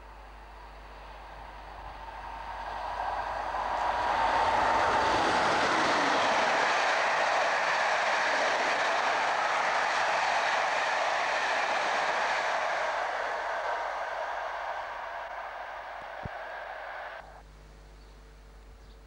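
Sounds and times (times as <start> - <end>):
locomotive whine: 0.0 - 17.4
train rushing past: 0.0 - 17.4.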